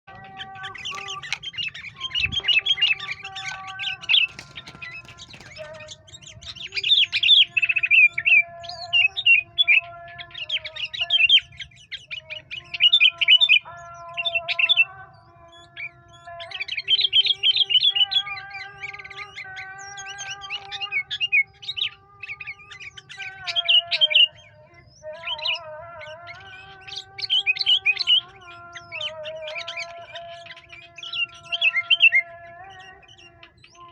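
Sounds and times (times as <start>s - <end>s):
rapid high bird chirps: 0.1s - 33.9s.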